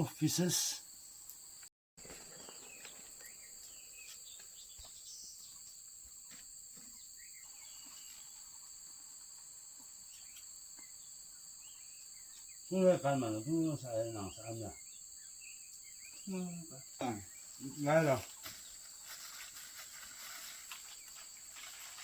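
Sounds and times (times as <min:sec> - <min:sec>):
faint chirps: 0:00.0 - 0:22.0
insects buzzing drone: 0:00.0 - 0:22.0.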